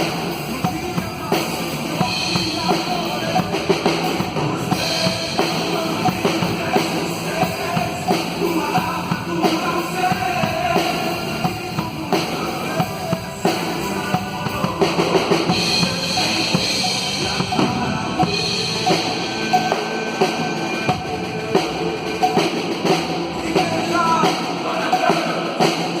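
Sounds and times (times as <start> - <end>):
drum kit playing: 0.0 - 26.0
recorded worship song with band: 0.0 - 26.0.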